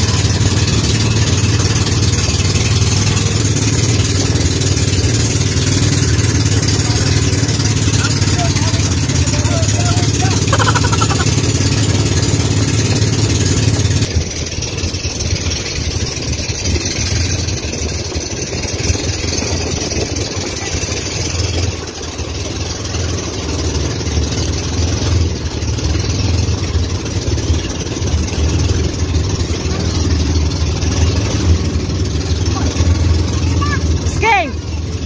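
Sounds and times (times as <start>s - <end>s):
boat engine humming: 0.0s - 35.0s
wind and water rushing: 0.0s - 35.0s.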